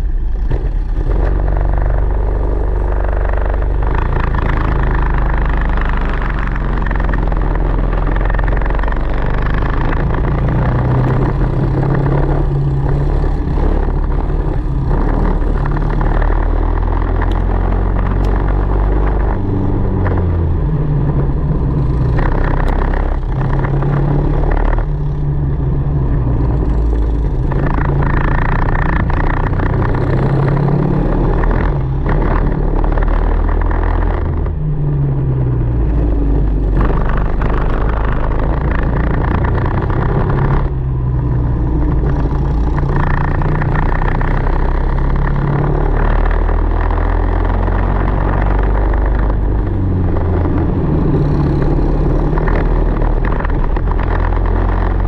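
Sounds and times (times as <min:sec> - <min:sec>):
kart engine revving: 0:00.0 - 0:55.0
other kart engines running: 0:00.0 - 0:55.0.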